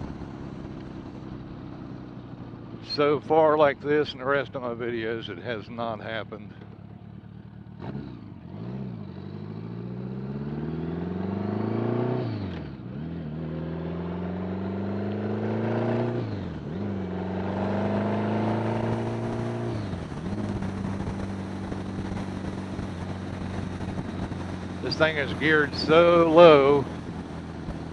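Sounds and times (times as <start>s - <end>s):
motorcycle engine accelerating: 0.0s - 5.2s, 5.8s - 27.9s.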